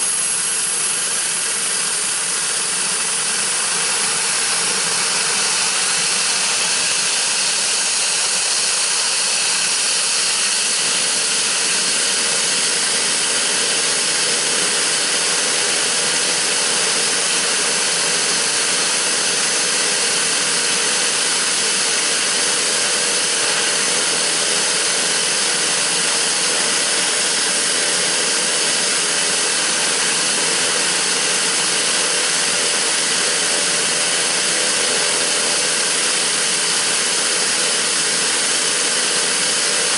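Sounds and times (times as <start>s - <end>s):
turboprop engine turbine hiss: 0.0s - 39.9s.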